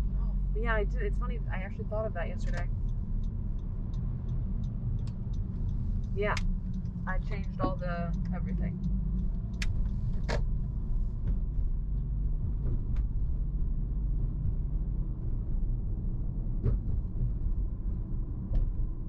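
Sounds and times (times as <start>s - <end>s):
car interior road rumble: 0.0s - 19.0s.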